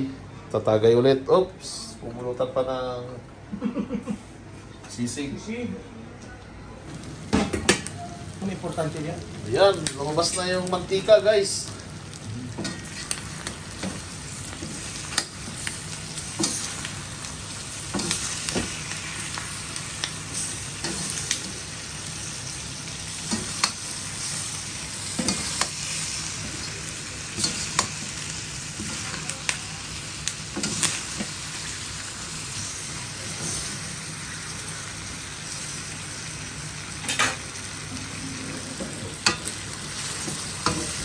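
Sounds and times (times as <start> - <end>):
meat sizzling in a wok: 7.0 - 41.0.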